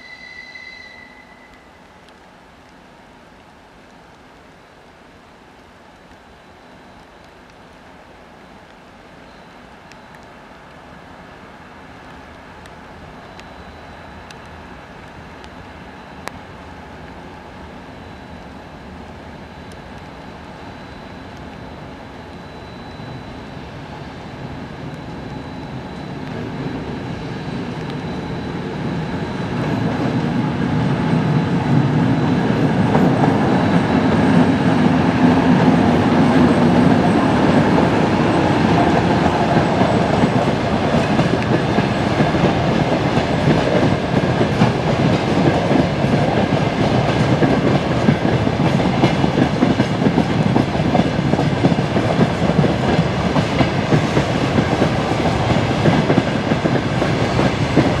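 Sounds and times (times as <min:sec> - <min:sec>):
diesel locomotive engine: 0:00.0 - 0:02.2, 0:10.2 - 0:58.0.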